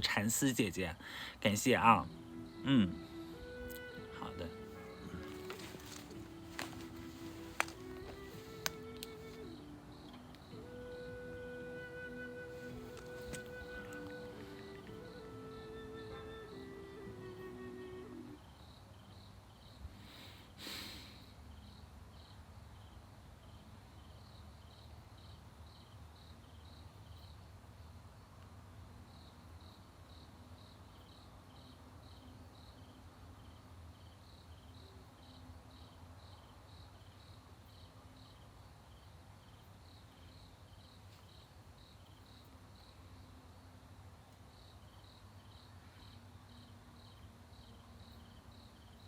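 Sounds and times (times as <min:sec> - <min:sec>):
cricket chirping: 0:00.0 - 0:20.3, 0:21.1 - 0:49.0.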